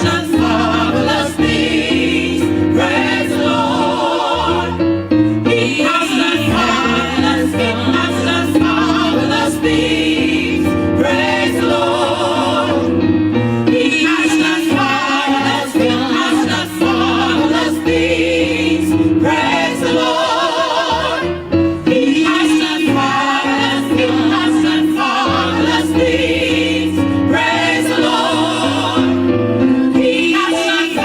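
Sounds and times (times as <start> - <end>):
gospel choir singing: 0.0 - 31.0.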